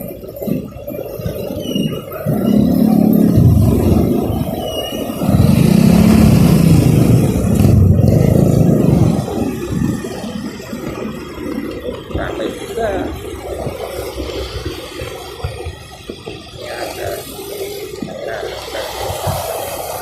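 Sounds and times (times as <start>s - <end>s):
road noise: 0.0s - 20.0s
traffic engine hum: 0.0s - 20.0s.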